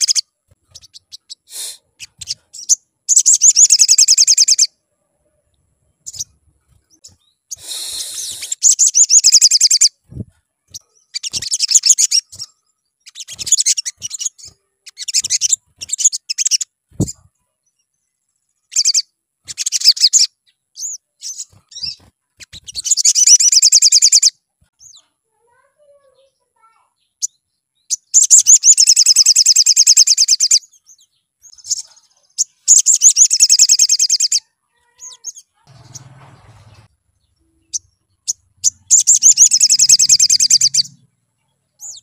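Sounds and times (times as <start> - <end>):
bird trilling chatter: 0.0 - 4.7, 6.0 - 17.3, 18.7 - 25.0, 25.6 - 30.7, 31.4 - 41.1, 41.8 - 42.0.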